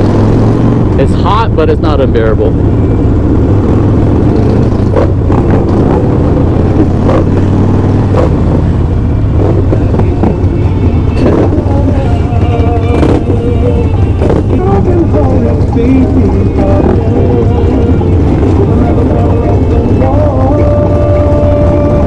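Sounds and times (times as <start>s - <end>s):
motorcycle engine running: 0.0s - 22.0s
wind rushing: 0.0s - 22.0s.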